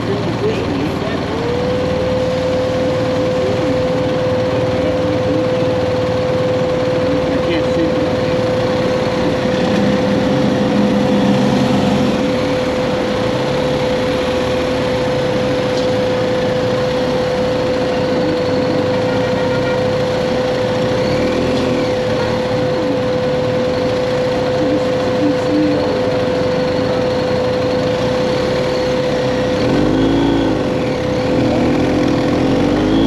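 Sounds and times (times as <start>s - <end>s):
motorcycle engine idling: 0.0s - 33.0s
vehicles passing: 0.0s - 33.0s.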